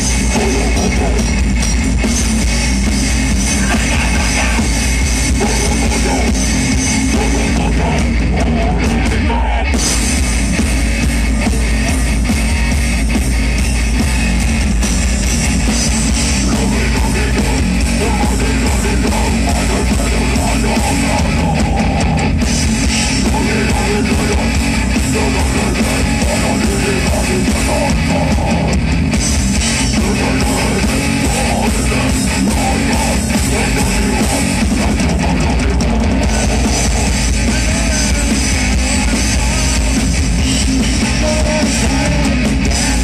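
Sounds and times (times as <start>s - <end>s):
drums: 0.0s - 43.0s
electric guitars: 0.0s - 43.0s.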